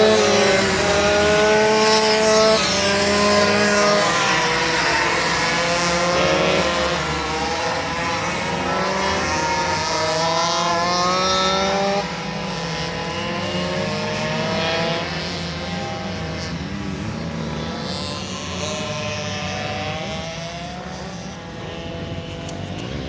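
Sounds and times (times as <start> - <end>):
minibike engines accelerating: 0.0 - 23.0.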